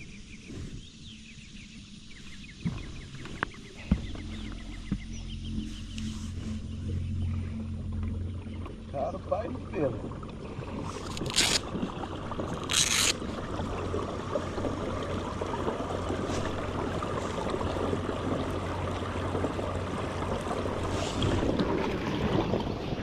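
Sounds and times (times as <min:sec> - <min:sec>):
steady low hum: 0:00.0 - 0:23.0
water lapping and sloshing: 0:00.0 - 0:23.0.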